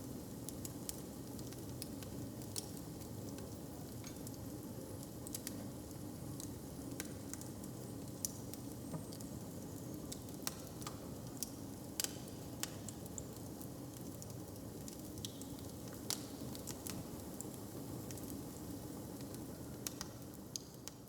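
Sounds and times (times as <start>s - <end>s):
fire crackling and popping: 0.5s - 21.0s.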